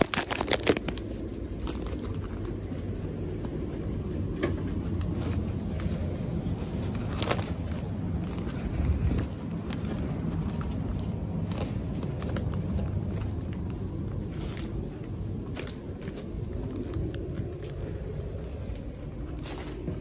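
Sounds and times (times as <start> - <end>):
train carriage rumble: 0.0 - 20.0.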